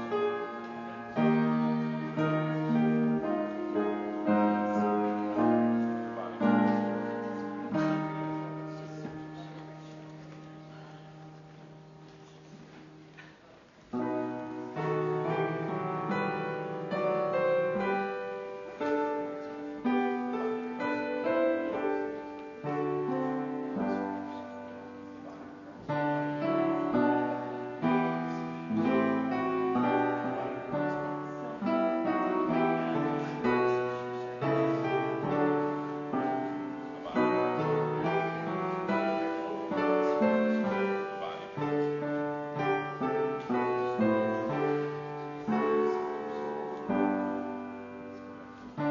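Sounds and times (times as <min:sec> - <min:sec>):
piano music: 0:00.0 - 0:48.9.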